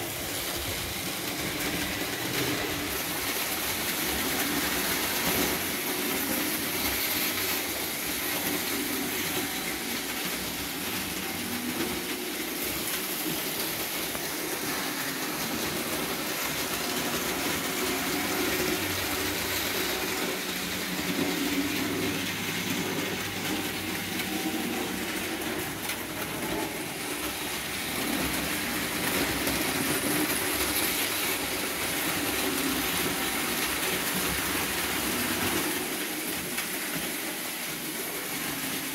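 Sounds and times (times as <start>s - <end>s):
model trains running on metal track: 0.0s - 38.9s.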